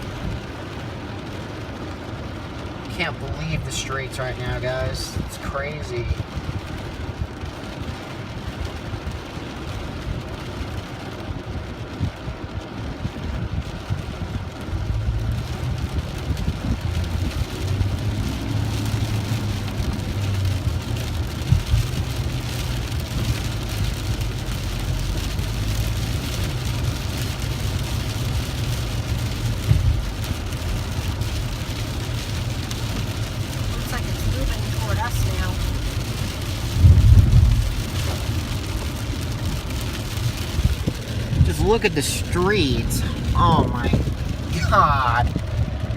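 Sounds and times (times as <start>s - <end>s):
heavy rain pouring: 0.0s - 45.9s
low steady rumble: 0.0s - 45.9s.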